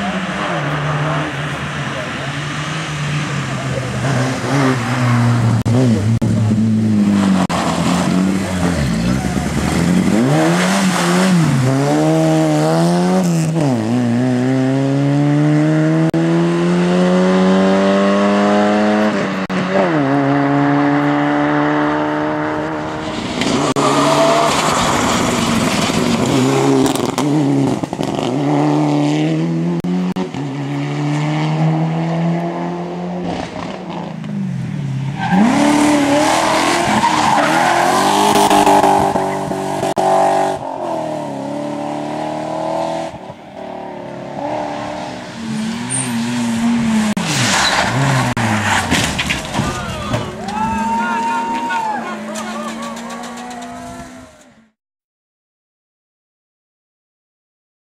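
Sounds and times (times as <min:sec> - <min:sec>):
rally car engines accelerating: 0:00.0 - 0:54.6.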